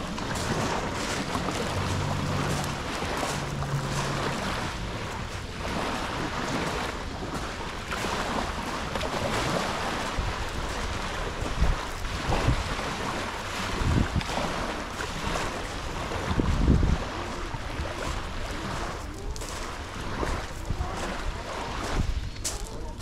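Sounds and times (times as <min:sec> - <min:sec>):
sea waves washing on beach: 0:00.0 - 0:23.0
wind buffeting microphone: 0:00.0 - 0:23.0.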